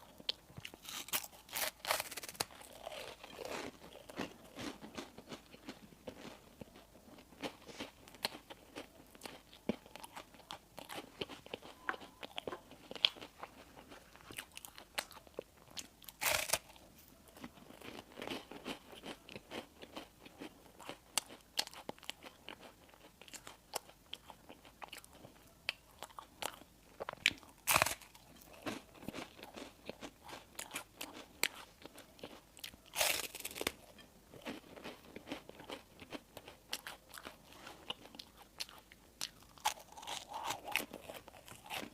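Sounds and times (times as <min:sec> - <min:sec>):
chewing crispy bread: 0:00.0 - 0:41.9.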